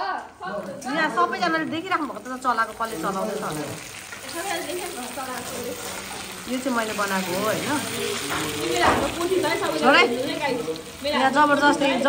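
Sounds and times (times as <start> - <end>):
food sizzling in a pan: 0.2 - 12.0.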